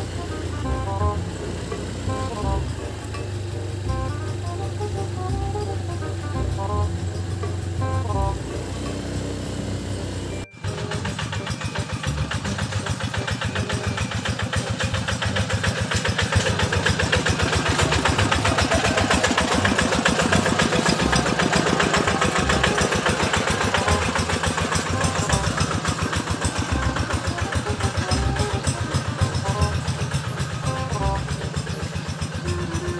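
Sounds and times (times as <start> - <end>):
diesel engine chugging: 0.0 - 32.9.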